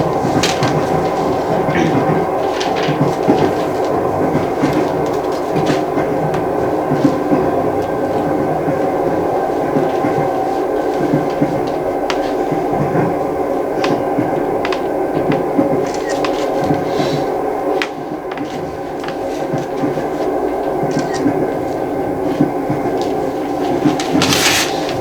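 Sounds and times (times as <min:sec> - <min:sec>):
train carriage rumble: 0:00.0 - 0:25.0.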